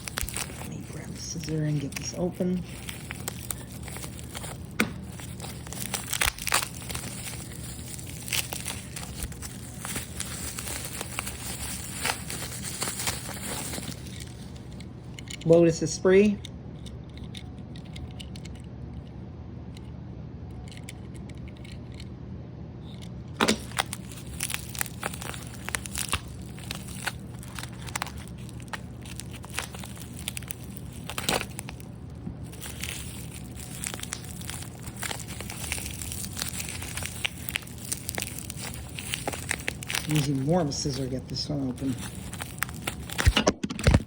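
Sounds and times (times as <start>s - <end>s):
blister packaging crinkling and tearing: 0.0s - 15.5s, 23.4s - 44.0s
low steady hum: 0.0s - 44.0s.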